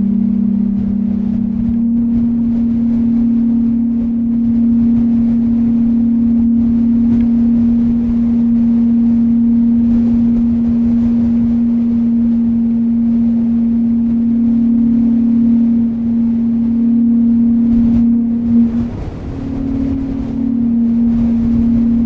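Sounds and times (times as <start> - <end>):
low humming tone: 0.0 - 22.0
wind rushing: 0.0 - 22.0.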